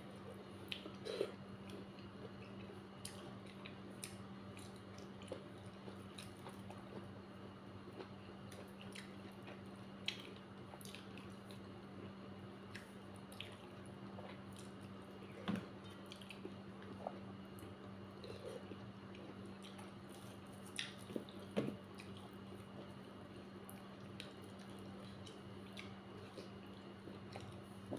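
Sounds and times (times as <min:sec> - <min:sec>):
steady low hum: 0:00.0 - 0:27.9
chewing and mouth clicks: 0:00.6 - 0:07.1, 0:07.9 - 0:11.7, 0:12.7 - 0:15.0, 0:15.8 - 0:23.0, 0:23.6 - 0:27.9.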